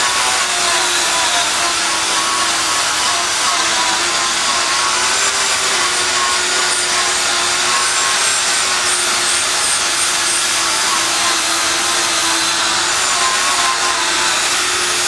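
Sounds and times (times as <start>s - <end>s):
power tool grinding: 0.0s - 15.0s.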